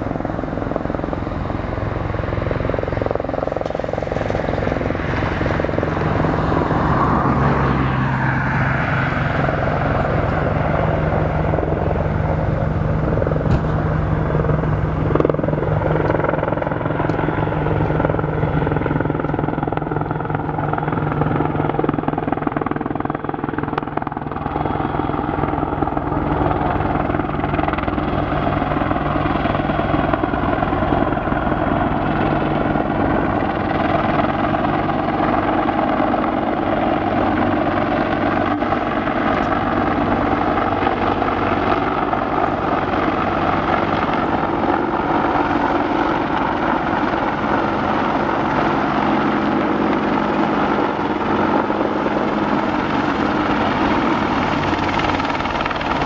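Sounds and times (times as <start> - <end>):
helicopter rotor beat: 0.0 - 56.0
turbine engine whine: 0.0 - 56.0.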